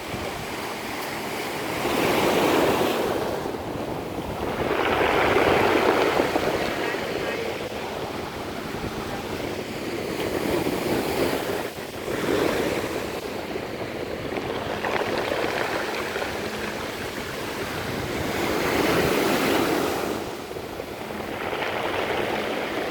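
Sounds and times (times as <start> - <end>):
waves washing over pebbles: 0.0 - 22.9.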